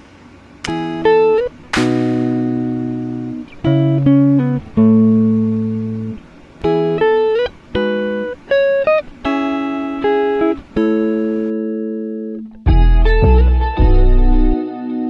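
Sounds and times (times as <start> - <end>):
slow plucked-string melody: 0.6 - 15.0.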